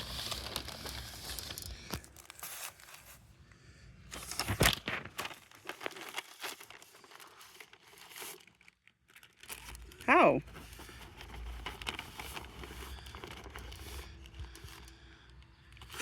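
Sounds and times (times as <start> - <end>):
sandwich wrappers rustling: 0.0 - 16.0.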